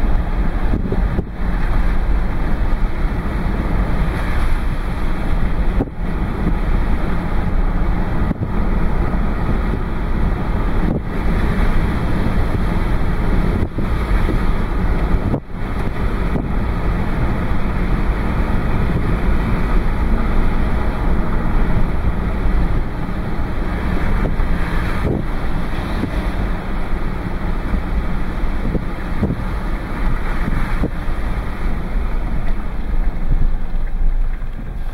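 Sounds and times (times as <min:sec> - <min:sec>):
car road and engine noise: 0:00.0 - 0:34.9
wind blowing across microphone: 0:00.0 - 0:34.9.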